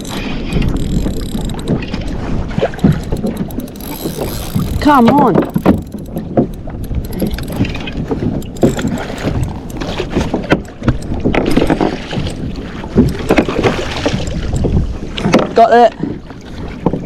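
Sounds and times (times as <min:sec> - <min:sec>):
water splashing and sloshing: 0:00.0 - 0:17.0
wind buffeting microphone: 0:00.0 - 0:17.0.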